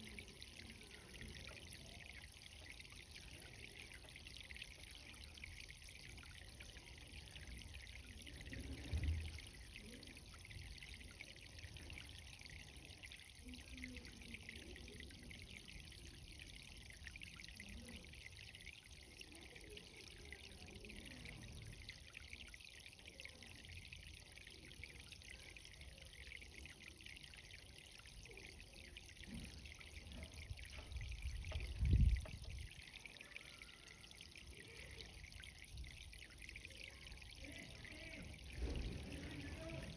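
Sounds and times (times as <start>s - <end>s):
irrigation water trickling: 0.0s - 39.9s.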